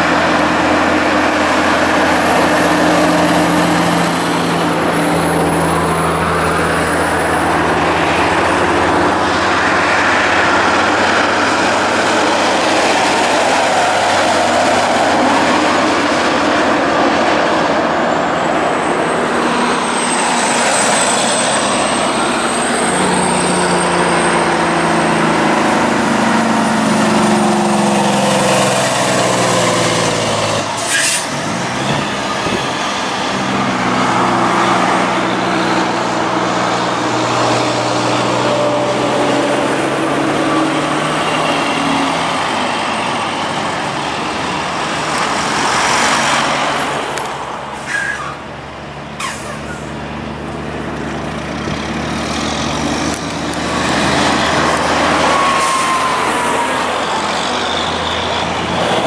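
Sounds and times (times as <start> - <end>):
diesel trucks passing: 0.0 - 59.0
tyre and road noise: 0.0 - 59.0.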